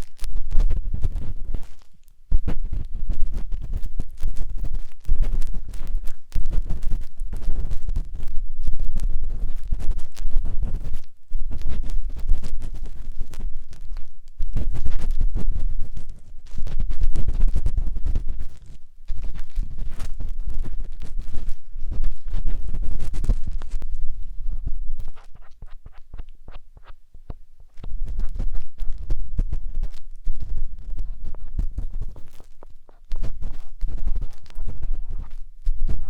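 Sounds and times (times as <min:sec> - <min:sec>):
matchstick scratching in microphone: 0:00.0 - 0:36.0.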